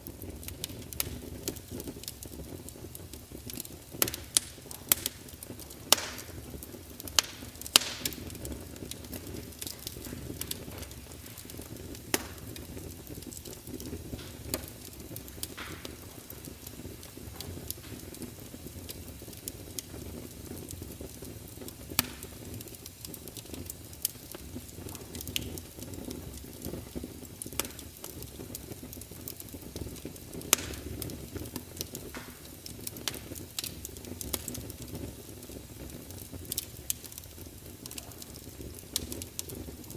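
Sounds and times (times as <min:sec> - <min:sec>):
wood fire burning: 0:00.0 - 0:39.9.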